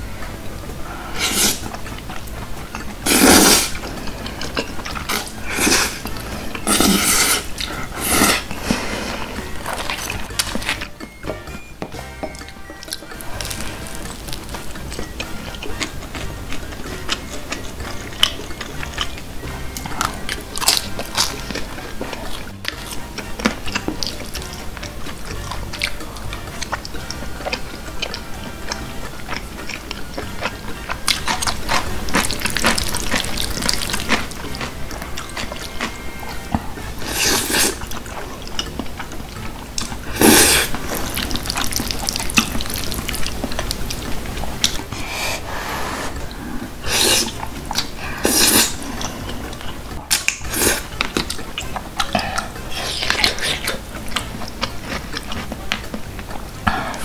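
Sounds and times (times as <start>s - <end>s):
background music: 0.0s - 57.0s
noodles slurped and chewed: 0.0s - 57.0s.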